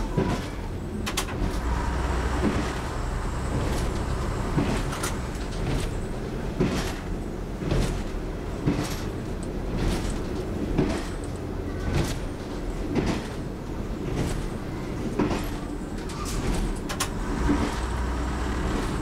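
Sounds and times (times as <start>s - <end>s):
train engine and wheels rumbling: 0.0s - 19.0s.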